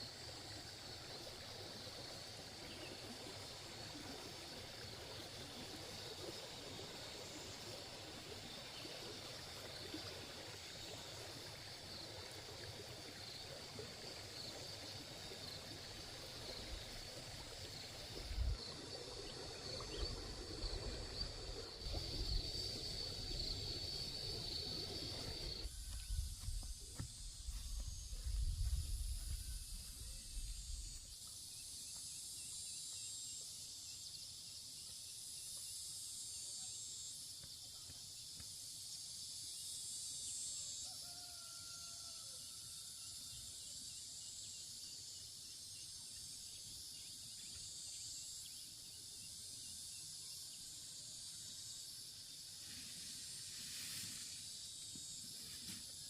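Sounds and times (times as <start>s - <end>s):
high-pitched insect chorus: 0.0s - 56.0s
insects trilling: 0.0s - 56.0s.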